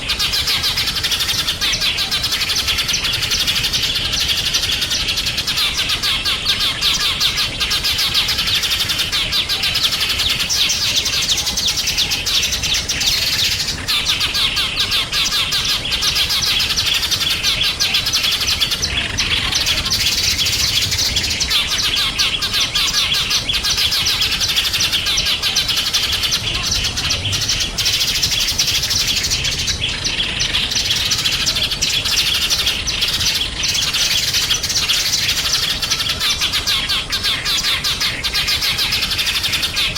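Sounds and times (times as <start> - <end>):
songbirds chirping in chorus: 0.0 - 39.9.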